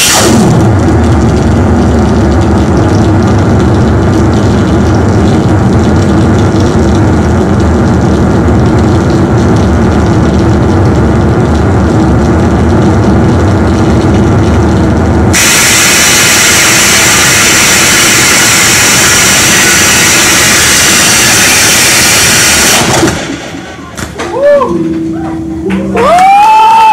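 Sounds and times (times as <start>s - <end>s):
harsh guitar effects noise: 0.0s - 26.9s.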